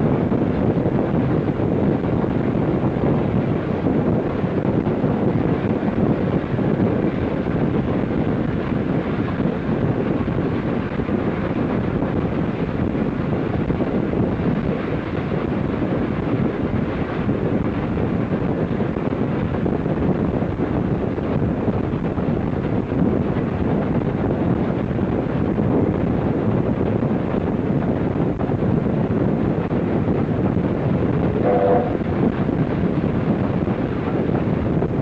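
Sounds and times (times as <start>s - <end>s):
moving train rumbling: 0.0s - 35.0s
wind buffeting microphone: 0.0s - 35.0s.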